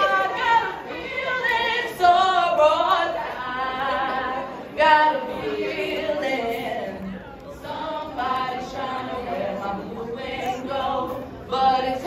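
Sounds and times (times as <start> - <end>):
women singing and chanting: 0.0 - 12.0.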